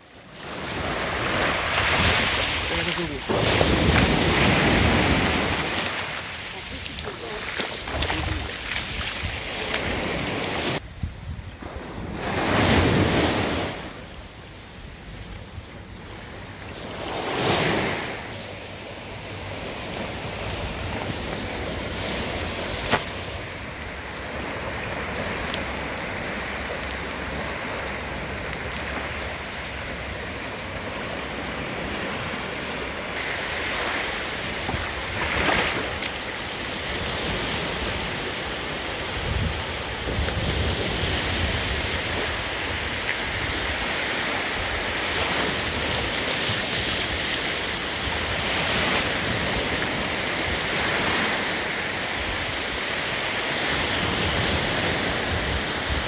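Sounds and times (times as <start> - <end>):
waves washing onto sandy shore: 0.0 - 56.0
wind on microphone: 0.4 - 56.0.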